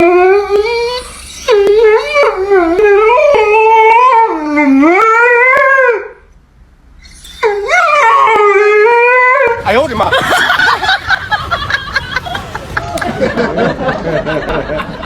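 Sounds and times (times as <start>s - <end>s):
dog howling: 0.0s - 6.3s, 7.1s - 13.4s.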